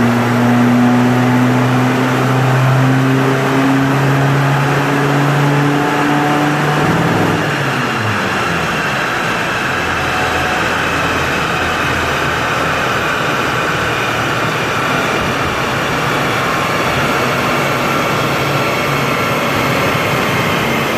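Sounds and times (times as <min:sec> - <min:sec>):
diesel engine revving: 0:00.0 - 0:20.9.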